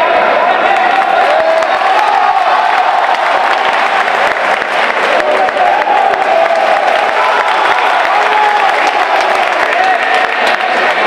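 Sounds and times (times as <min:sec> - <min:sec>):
spectators shouting and cheering: 0:00.0 - 0:11.0
people clapping: 0:00.4 - 0:11.0.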